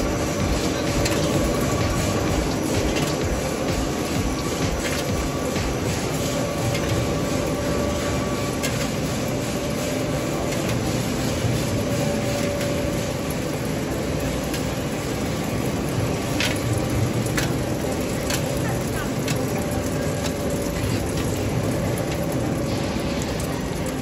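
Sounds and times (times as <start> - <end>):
faint constant hum: 0.0 - 24.0
machine mechanical rumble: 0.0 - 24.0.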